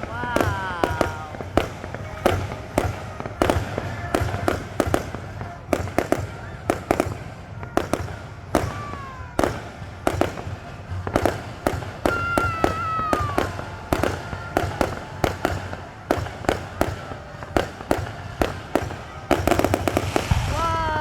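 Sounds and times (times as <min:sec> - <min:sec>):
fireworks cracking and popping: 0:00.0 - 0:21.0.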